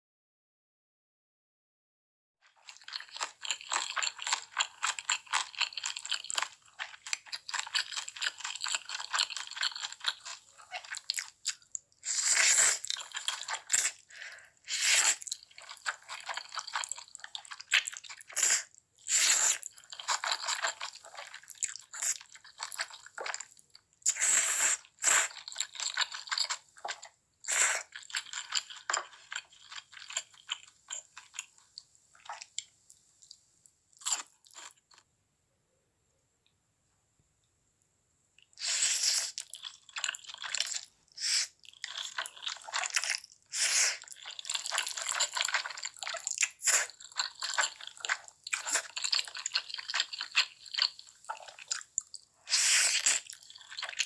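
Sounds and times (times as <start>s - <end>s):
crackly chewing: 2.4s - 35.1s, 38.4s - 54.0s.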